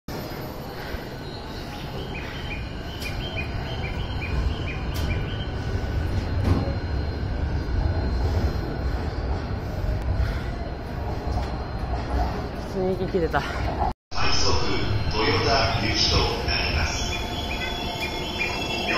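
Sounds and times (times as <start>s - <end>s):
electric train rumbling: 0.1s - 18.9s.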